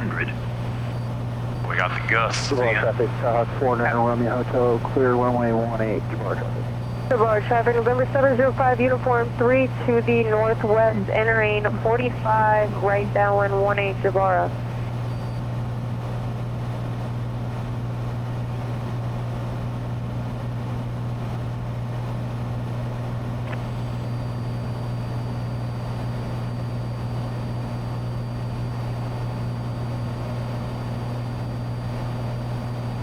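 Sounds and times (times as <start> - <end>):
airplane engine droning: 0.0 - 33.0.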